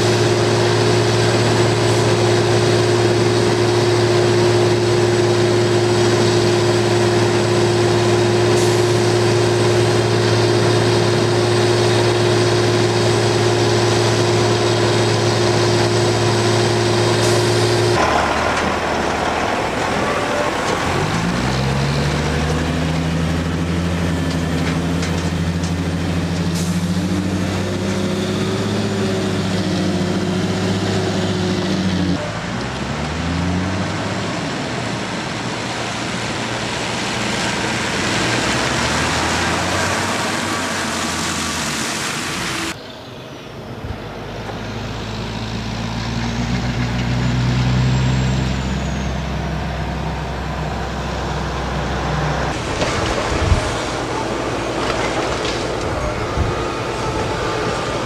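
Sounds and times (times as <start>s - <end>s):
heavy diesel engines: 0.0s - 58.0s.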